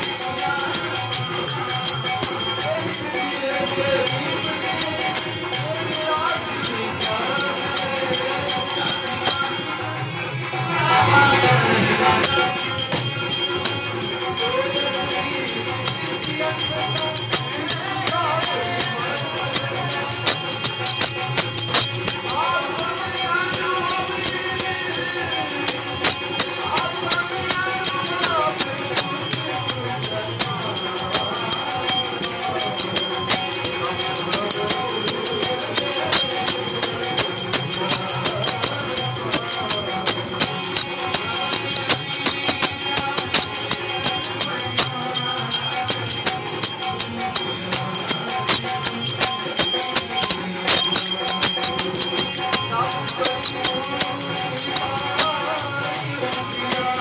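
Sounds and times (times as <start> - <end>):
hand cymbals clinking: 0.0 - 9.8, 12.2 - 57.0.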